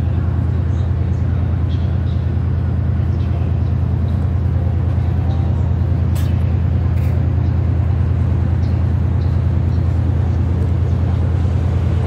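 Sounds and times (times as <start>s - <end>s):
diesel train engines rumbling: 0.0s - 12.0s.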